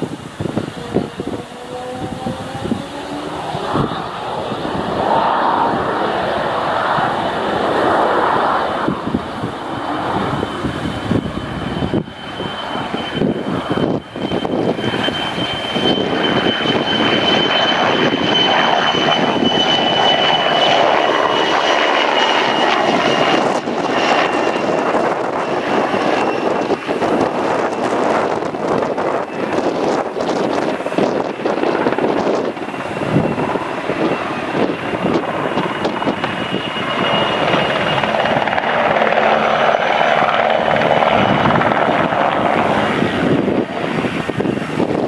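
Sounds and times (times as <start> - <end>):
helicopter rotor drone: 0.0 - 45.0
high turbine whine: 0.0 - 45.0.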